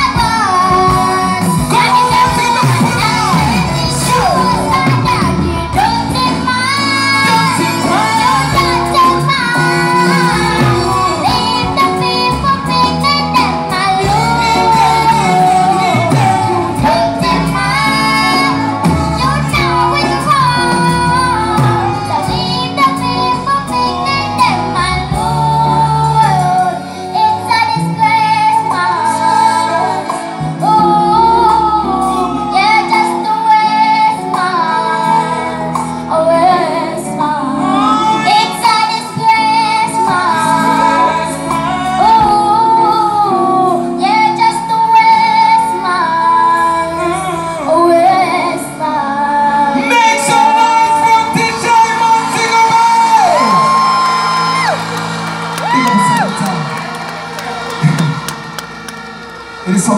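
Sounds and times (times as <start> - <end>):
girl singing into a microphone: 0.0 - 53.6
band backing music: 0.0 - 59.9.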